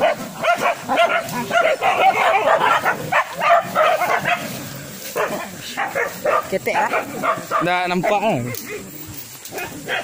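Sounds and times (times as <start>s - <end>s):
dogs barking and yelping: 0.0s - 10.0s
dogs yapping: 0.0s - 10.0s.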